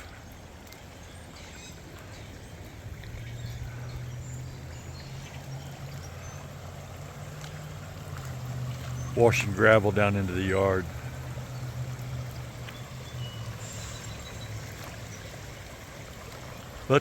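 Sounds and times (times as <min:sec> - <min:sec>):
floodwater rushing over gravel: 0:00.0 - 0:17.0.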